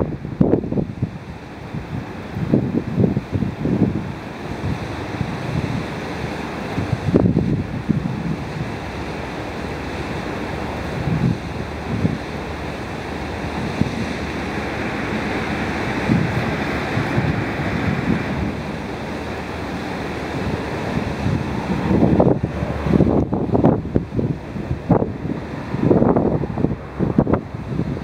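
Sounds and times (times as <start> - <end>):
wind blowing on microphone: 0.0 - 28.0.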